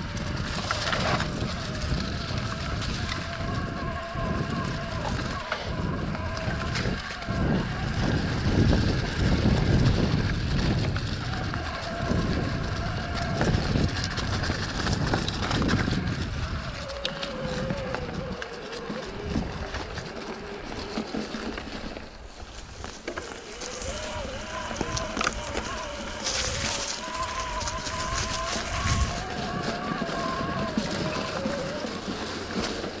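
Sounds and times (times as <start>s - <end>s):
bike rattling: 0.0s - 33.0s
bike tyre rumble: 0.0s - 33.0s
electric motor whine: 0.0s - 33.0s
wind buffeting microphone: 0.0s - 33.0s.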